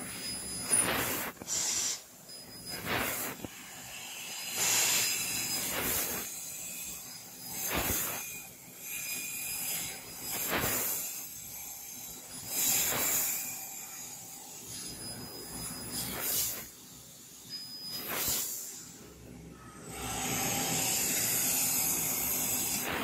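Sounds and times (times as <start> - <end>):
laser cutter gas jet hissing: 0.0 - 19.2, 19.9 - 23.0.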